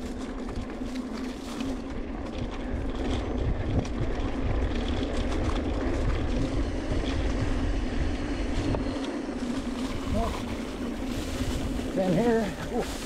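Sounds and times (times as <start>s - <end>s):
bike clicks and rattles: 0.0s - 13.0s
bike tyres on dirt: 0.0s - 13.0s
wind on microphone: 0.0s - 13.0s.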